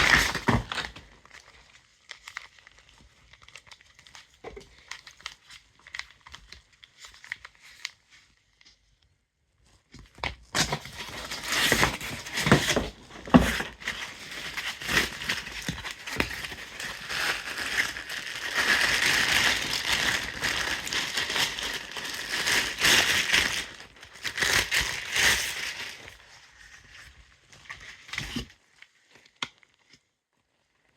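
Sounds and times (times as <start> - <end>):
packaging crinkling and rustling: 0.0 - 9.0, 9.6 - 30.9.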